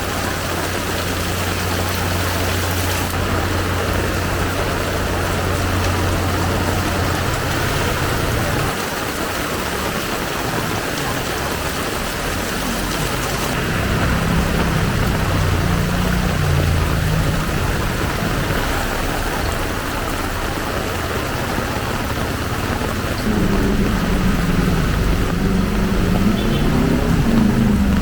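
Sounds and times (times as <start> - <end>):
vehicle engine passing: 0.0 - 8.8, 10.7 - 28.0
heavy rain: 0.0 - 28.0.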